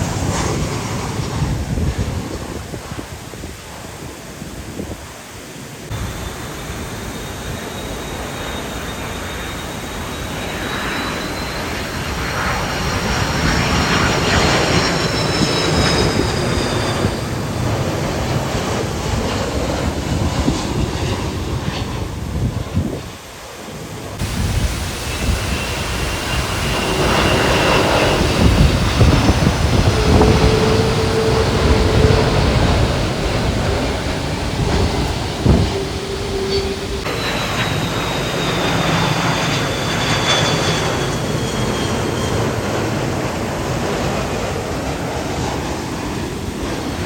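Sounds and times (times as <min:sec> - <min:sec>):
jet engine rumble and whine: 0:00.0 - 0:47.0.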